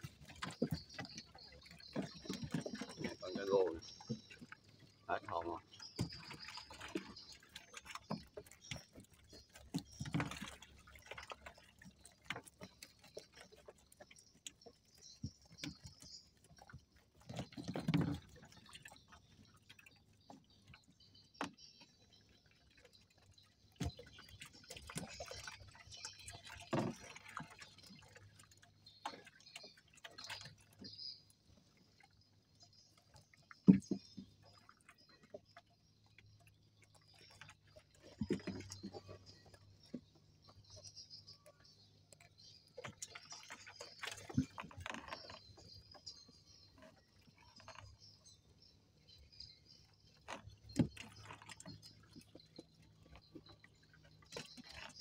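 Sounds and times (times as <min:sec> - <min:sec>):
water dripping and splashing: 0:00.0 - 0:55.0.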